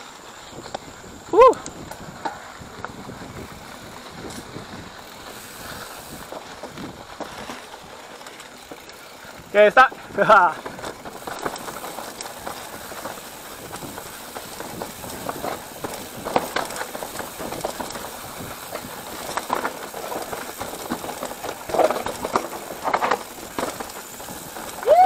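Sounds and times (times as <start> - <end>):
bike chain and frame rattling: 0.0 - 25.0
bike jolts: 0.0 - 25.0
tyres crunching on dirt: 0.0 - 25.0.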